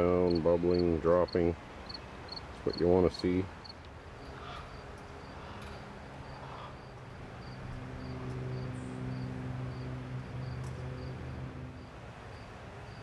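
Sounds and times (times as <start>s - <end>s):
low steady hum: 0.0s - 13.0s
cricket chirping: 0.3s - 2.5s, 3.6s - 13.0s.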